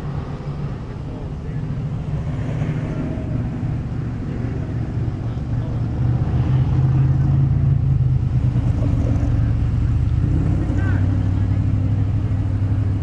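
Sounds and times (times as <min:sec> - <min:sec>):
car engines rumbling past: 0:00.0 - 0:13.0.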